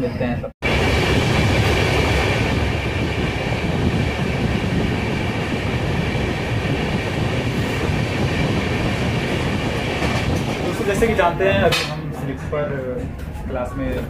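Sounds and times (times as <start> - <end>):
train wheels rumbling: 0.6 - 14.0.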